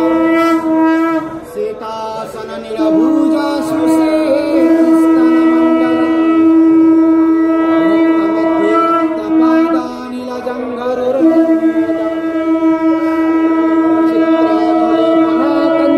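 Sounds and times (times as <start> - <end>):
lower held horn note: 0.0 - 1.7, 2.7 - 10.0, 11.0 - 15.9
horns blown in long held notes: 0.0 - 15.9.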